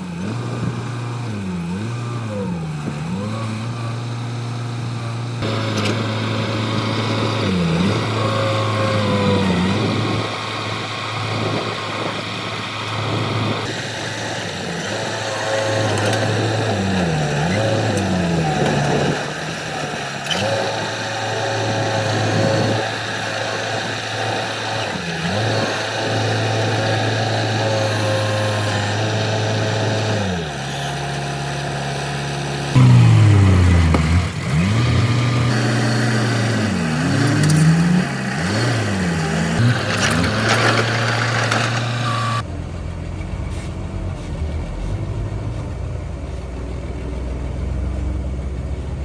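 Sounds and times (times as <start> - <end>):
heavy diesel engine revving: 0.0 - 49.0.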